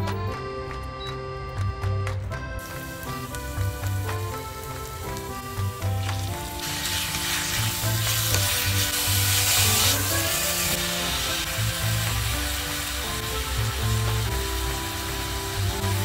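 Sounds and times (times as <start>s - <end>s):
background music with bass: 0.0s - 16.0s
food sizzling in a pan: 2.6s - 16.0s.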